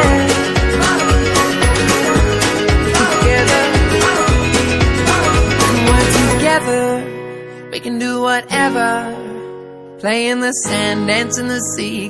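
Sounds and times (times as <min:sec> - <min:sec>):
upbeat pop song: 0:00.0 - 0:12.0.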